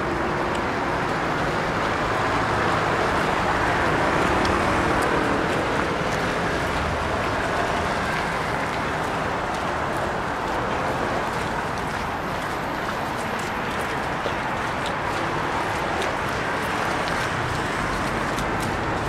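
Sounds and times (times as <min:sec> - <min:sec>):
cars passing on wet road: 0:00.0 - 0:19.0.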